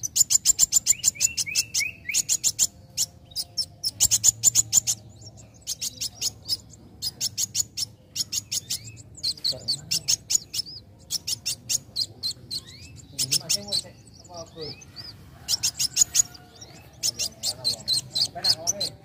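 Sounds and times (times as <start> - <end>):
sunbird singing high chirps: 0.0 - 19.0.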